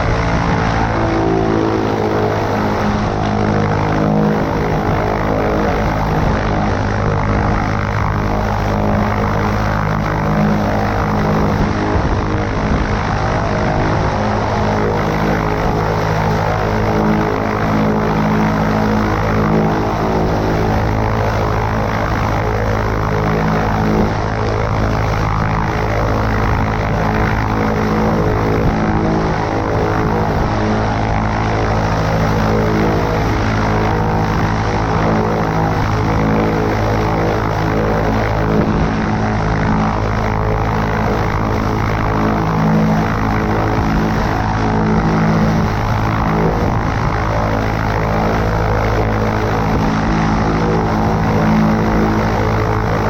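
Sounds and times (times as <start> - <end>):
propeller plane engine running: 0.0 - 53.0
wind and airflow noise: 0.0 - 53.0.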